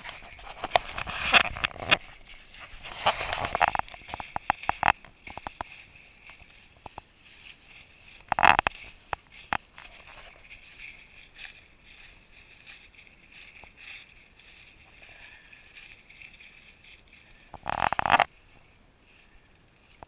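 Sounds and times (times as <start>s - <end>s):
dry leaves rustling and crackling: 0.0s - 20.0s.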